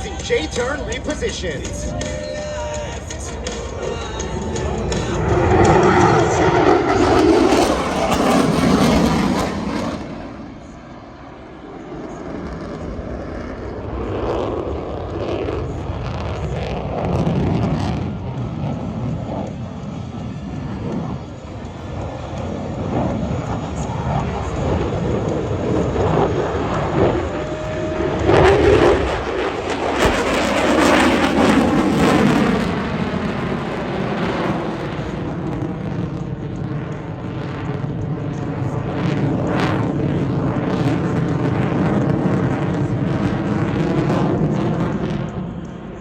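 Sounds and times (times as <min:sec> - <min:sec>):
loud jet engine roar: 0:00.0 - 0:46.0.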